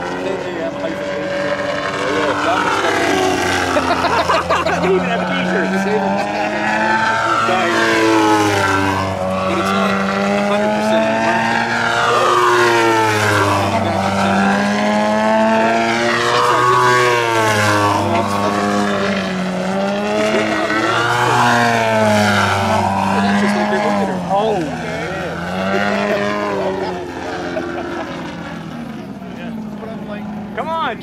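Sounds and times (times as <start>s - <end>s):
model plane engine and propeller: 0.0s - 31.0s.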